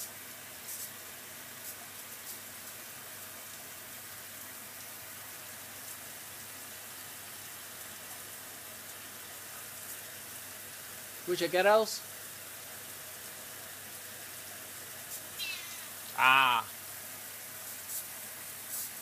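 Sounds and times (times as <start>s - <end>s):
washing machine watery hiss: 0.0s - 19.0s.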